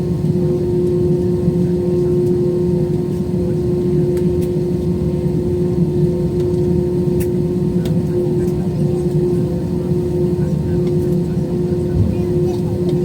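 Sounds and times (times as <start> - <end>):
airliner engines droning: 0.0 - 13.0.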